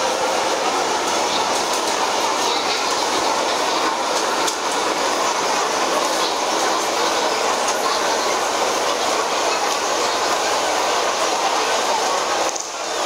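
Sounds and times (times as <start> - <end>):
crowd talking: 0.0 - 13.0.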